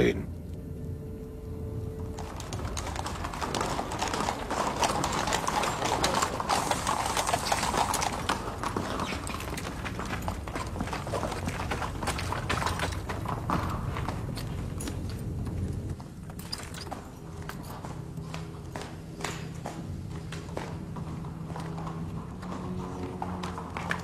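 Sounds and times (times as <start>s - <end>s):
hooves clip-clopping on paving: 0.4s - 24.0s
chariot wheels rolling rumble: 1.4s - 24.0s.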